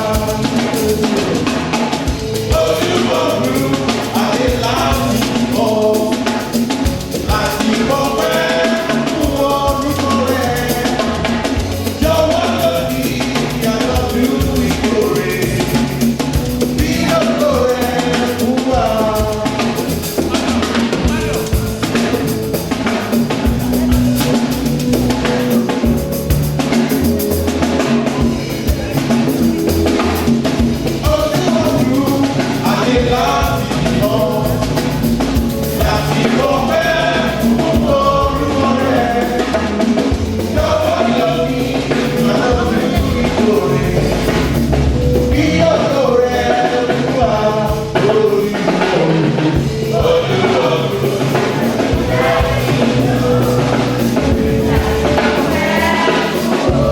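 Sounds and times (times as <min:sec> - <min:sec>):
drum kit and percussion beat: 0:00.0 - 0:56.9
voices singing: 0:00.0 - 0:56.9.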